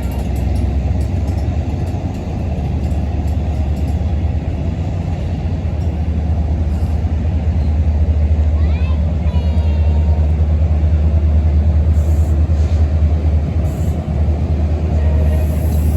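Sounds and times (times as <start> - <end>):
train wheels rumbling: 0.0 - 15.9.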